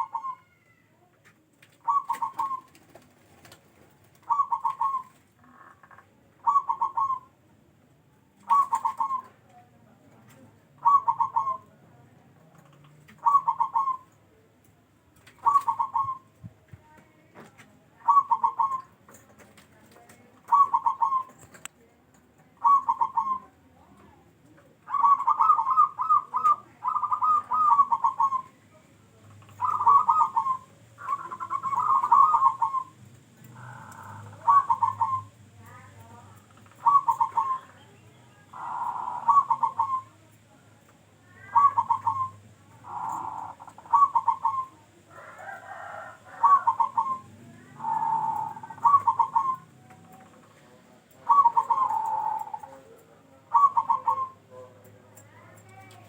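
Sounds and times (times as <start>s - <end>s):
dove trilled cooing: 0.0s - 0.7s, 1.6s - 7.4s, 8.4s - 9.4s, 10.1s - 11.8s, 13.1s - 14.2s, 15.2s - 16.4s, 18.0s - 21.6s, 22.6s - 24.1s, 24.9s - 28.6s, 29.4s - 40.2s, 41.3s - 56.0s.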